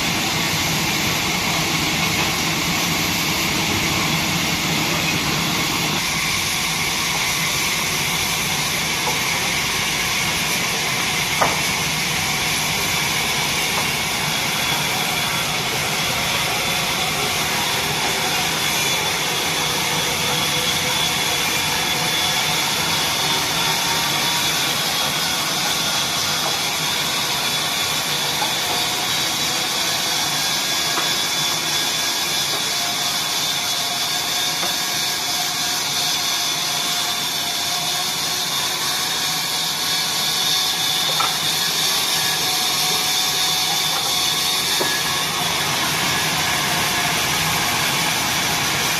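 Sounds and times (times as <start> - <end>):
band saw running: 0.0 - 48.9.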